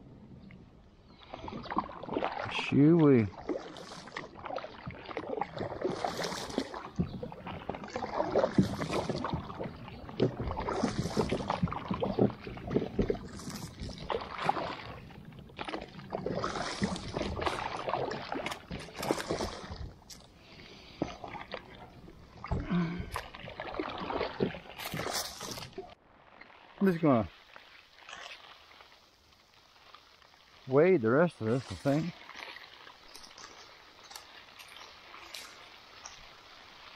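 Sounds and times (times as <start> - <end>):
paddle strokes splashing: 1.1 - 36.9.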